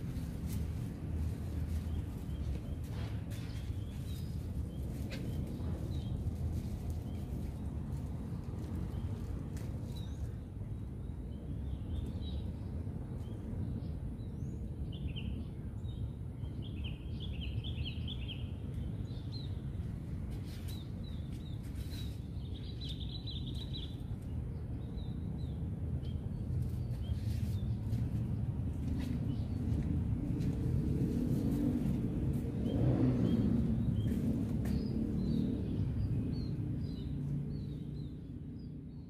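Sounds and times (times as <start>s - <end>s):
low outdoor rumble: 0.0s - 39.0s
small birds chirping: 0.0s - 39.0s.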